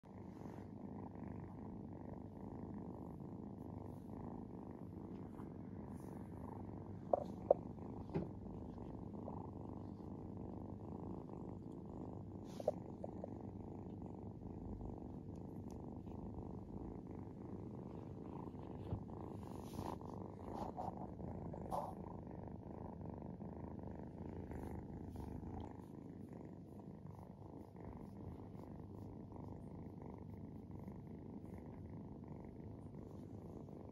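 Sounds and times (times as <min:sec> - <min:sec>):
kitten purring: 0:00.0 - 0:33.9.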